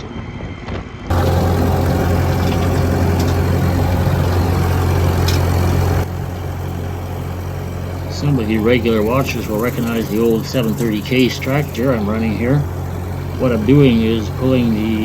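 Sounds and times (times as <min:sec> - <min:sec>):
tractor engine running under load: 0:01.1 - 0:15.0.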